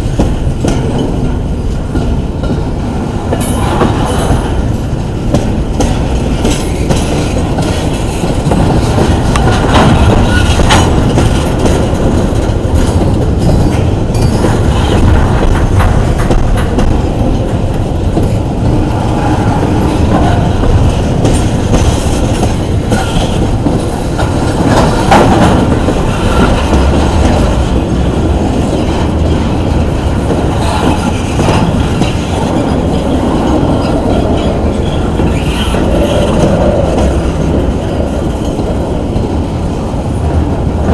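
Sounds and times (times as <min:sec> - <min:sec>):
freight train rumbling: 0:00.0 - 0:40.9
wheels clicking over rail joints: 0:03.3 - 0:39.5.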